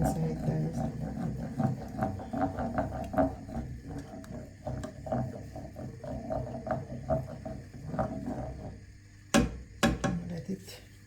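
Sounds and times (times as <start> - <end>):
sauce bubbling in a pot: 0.0 - 10.3.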